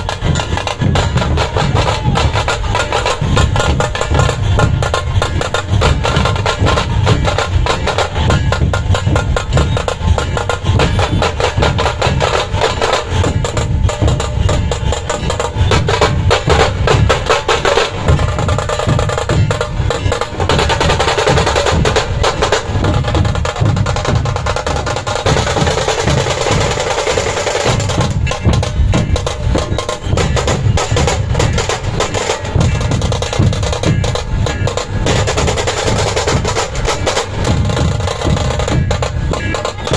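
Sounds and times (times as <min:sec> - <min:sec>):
deep drum beats: 0:00.0 - 0:39.9
fast snare drum rolls: 0:00.0 - 0:39.9.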